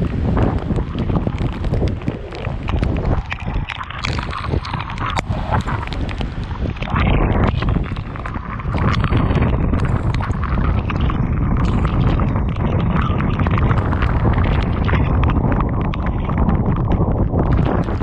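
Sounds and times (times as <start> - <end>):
heavy rain: 0.0 - 18.0
wind buffeting microphone: 0.0 - 18.0.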